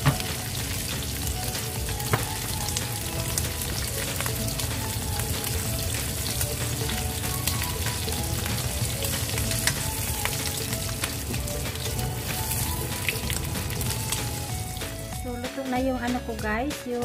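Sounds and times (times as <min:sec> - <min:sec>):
meat sizzling in a frying pan: 0:00.0 - 0:15.1.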